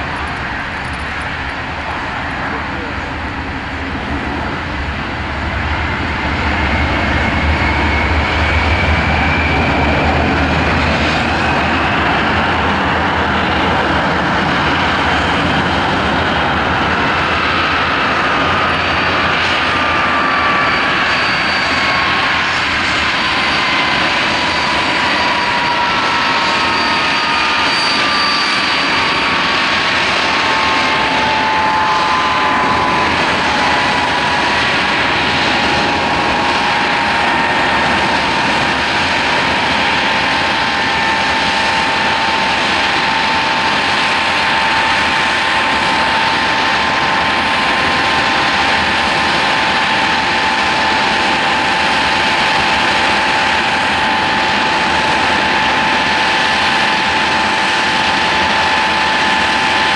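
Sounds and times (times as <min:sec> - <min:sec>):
jet aircraft taxiing: 0:00.0 - 0:59.9
jet engine whines: 0:00.0 - 0:59.9.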